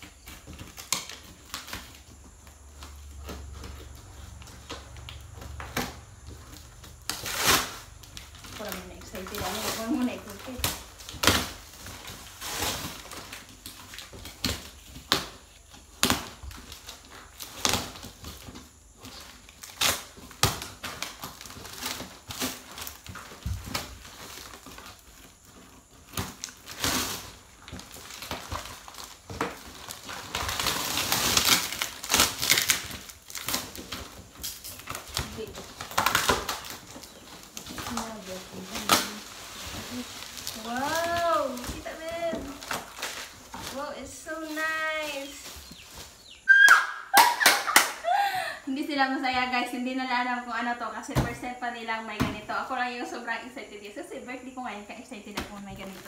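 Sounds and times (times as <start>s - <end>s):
cardboard and plastic crinkling: 0.0s - 46.5s, 51.0s - 56.0s
packing tape ripping: 0.0s - 48.2s.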